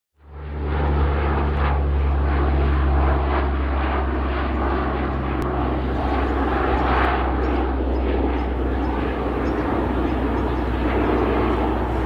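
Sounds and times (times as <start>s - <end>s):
propeller aircraft flying low: 0.2s - 12.0s.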